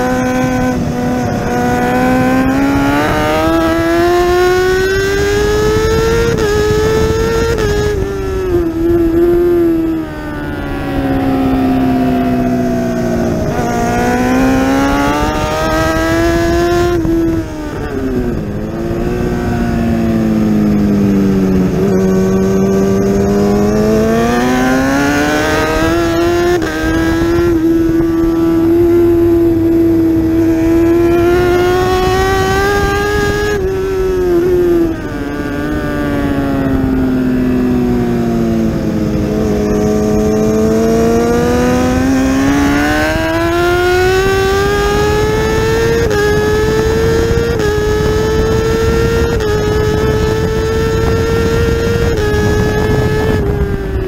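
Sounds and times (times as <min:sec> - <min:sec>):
motorcycle engine revving: 0:00.0 - 0:54.0
wind rush: 0:00.0 - 0:54.0.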